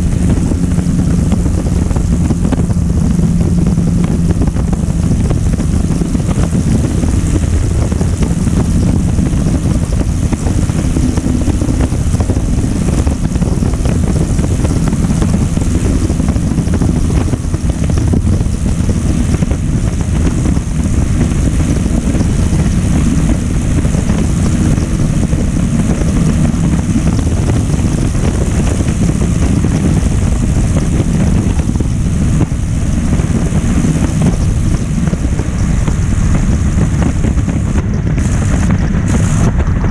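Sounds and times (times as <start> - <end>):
airplane engine running steadily: 0.0 - 39.9
rush of airflow: 0.0 - 39.9.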